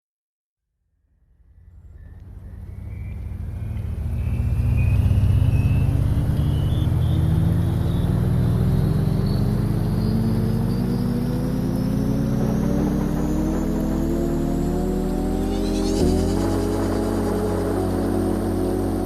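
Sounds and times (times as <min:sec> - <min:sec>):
faint rising whine: 0:01.2 - 0:19.0
vehicle engine rumbling: 0:01.2 - 0:19.0.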